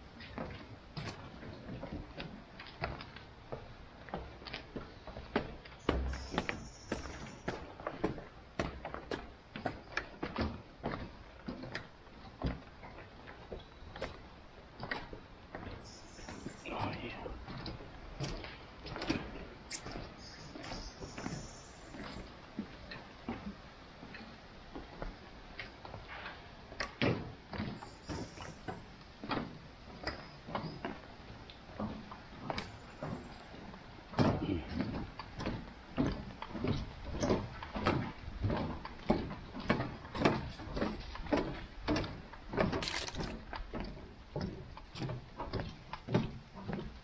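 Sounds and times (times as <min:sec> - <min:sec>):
footsteps on trail steps: 0:00.2 - 0:26.7, 0:31.9 - 0:47.0.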